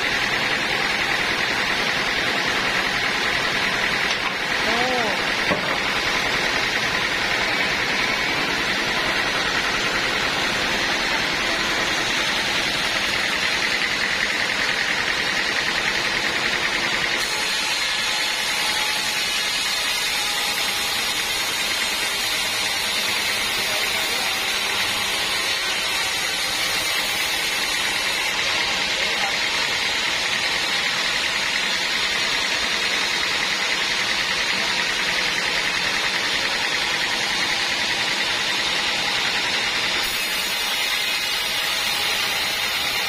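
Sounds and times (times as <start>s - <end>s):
band saw running with high whine: 0.0s - 43.0s.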